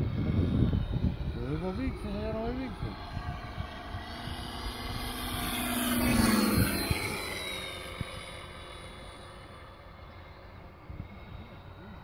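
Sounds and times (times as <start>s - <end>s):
model plane engine sound: 0.0s - 12.0s
propeller: 0.0s - 12.0s.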